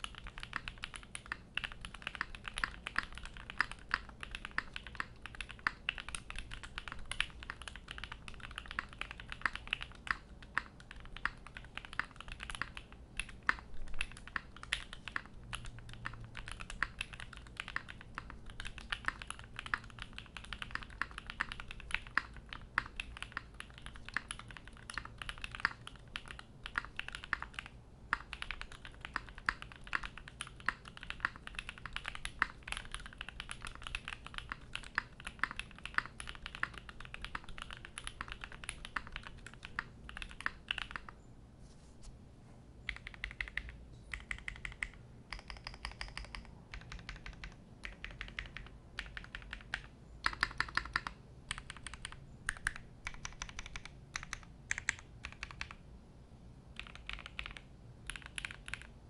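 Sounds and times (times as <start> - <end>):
mechanical keyboard typing: 0.0 - 41.2, 42.9 - 55.8, 56.7 - 59.0.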